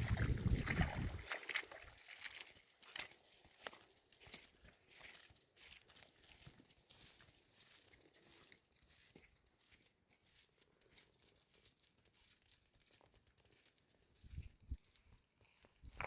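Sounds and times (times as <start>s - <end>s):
footsteps crunching in snow: 0.0s - 16.0s.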